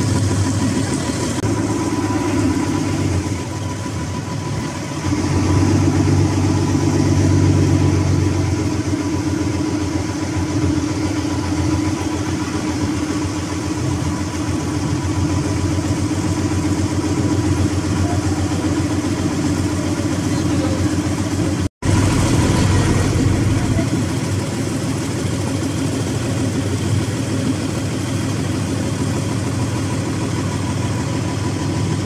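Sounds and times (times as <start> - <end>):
boat engine running: 0.0 - 32.0.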